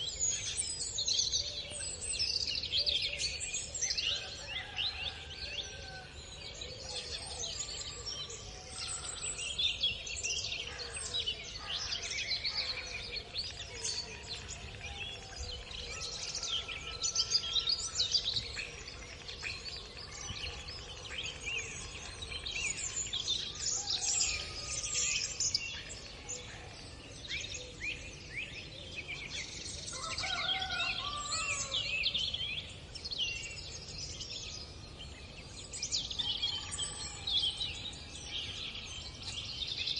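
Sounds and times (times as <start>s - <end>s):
birds chirping and peeping: 0.0s - 39.9s.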